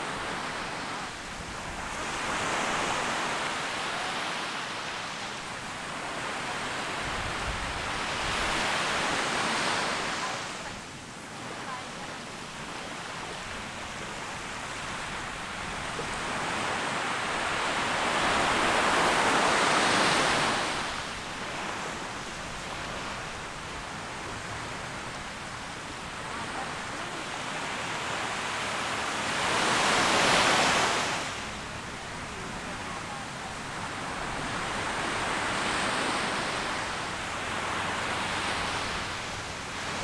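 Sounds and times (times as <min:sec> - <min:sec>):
waves breaking on sandy beach: 0:00.0 - 0:40.0.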